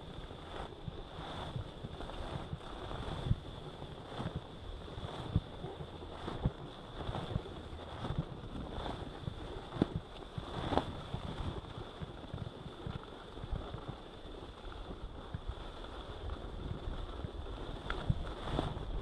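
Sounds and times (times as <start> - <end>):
skis sliding on snow: 0.0 - 19.0
wind buffeting microphone: 0.0 - 19.0.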